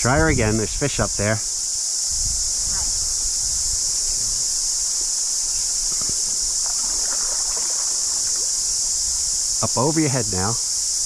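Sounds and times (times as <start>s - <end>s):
cicadas chorus: 0.0s - 11.0s.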